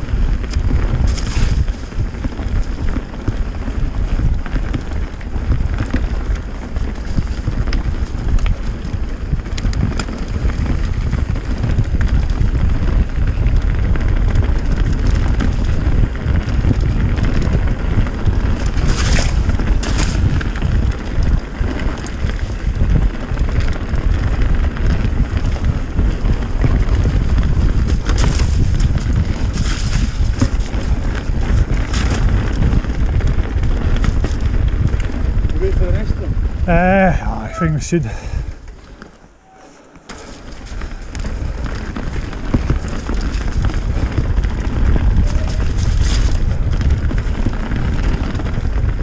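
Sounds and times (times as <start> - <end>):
bike rattling over rough ground: 0.0 - 49.0
tyres rumbling on muddy trail: 0.0 - 49.0
wind buffeting microphone: 0.0 - 49.0.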